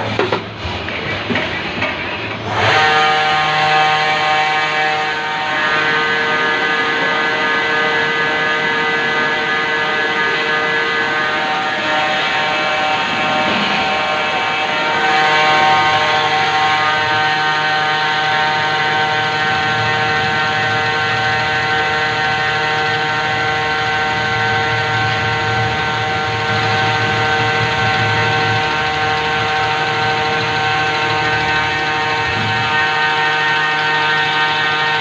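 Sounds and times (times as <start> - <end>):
lathe machine whine: 0.0 - 35.0.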